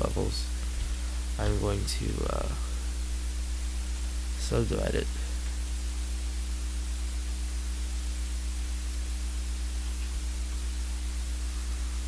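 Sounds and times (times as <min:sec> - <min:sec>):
low electrical hum: 0:00.0 - 0:12.0
microphone hiss: 0:00.0 - 0:12.0.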